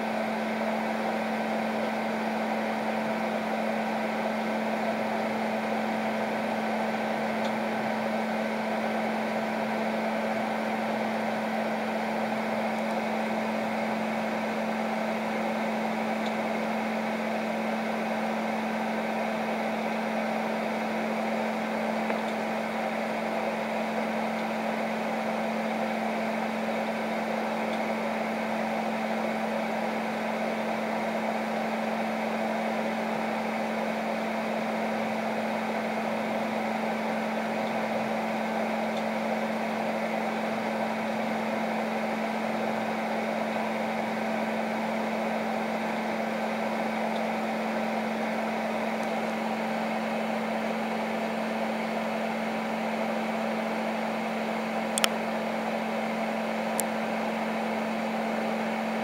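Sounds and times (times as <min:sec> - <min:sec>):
microwave oven running: 0:00.0 - 0:59.0.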